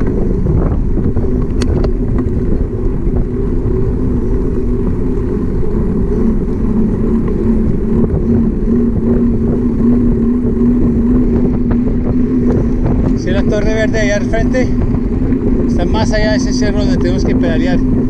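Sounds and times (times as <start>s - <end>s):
tyres humming on pavement: 0.0s - 18.0s
wind rumbling on microphone: 0.0s - 18.0s.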